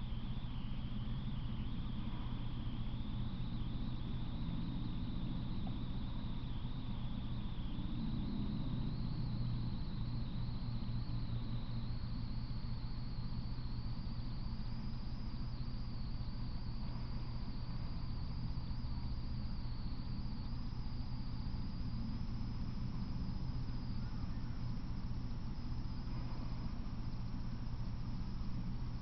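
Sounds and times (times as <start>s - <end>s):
background hum and hiss: 0.0s - 29.0s
high-pitched whine: 0.0s - 29.0s.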